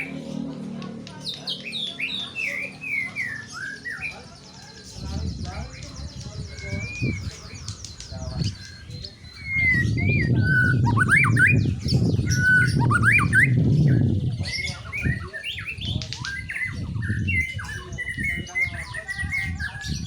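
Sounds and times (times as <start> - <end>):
bird singing whistled phrases: 1.2 - 4.2, 5.3 - 20.0.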